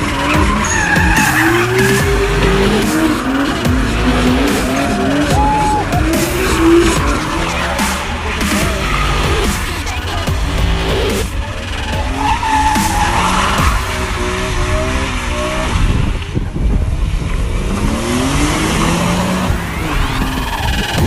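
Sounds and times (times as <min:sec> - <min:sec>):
tyres squealing on asphalt: 0:00.0 - 0:16.6, 0:17.8 - 0:21.0
car engine revving: 0:00.0 - 0:21.0.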